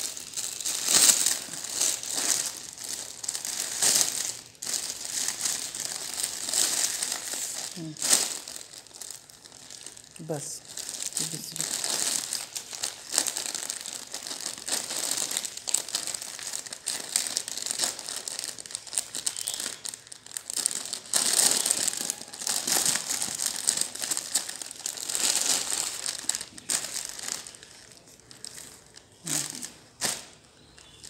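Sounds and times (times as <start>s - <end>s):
plastic packaging crinkling: 0.0s - 31.0s.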